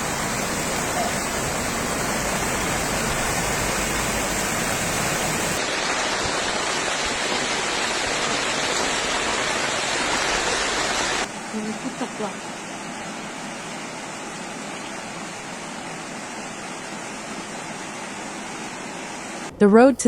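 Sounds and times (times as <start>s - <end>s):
floodwater rushing: 0.0s - 18.3s.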